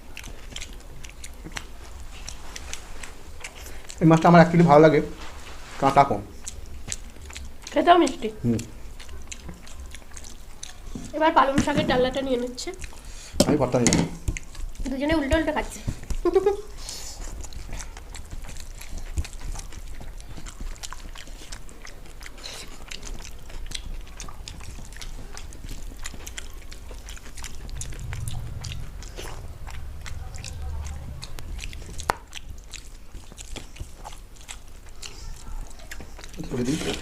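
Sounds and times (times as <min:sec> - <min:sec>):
people chewing food: 0:00.0 - 0:37.0.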